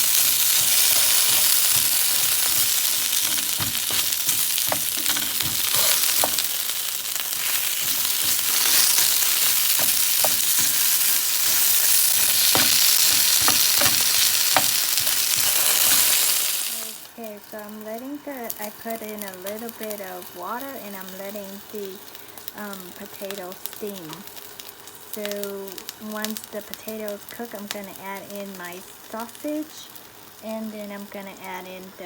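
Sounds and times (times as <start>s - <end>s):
potatoes sizzling in hot oil: 0.0s - 32.0s.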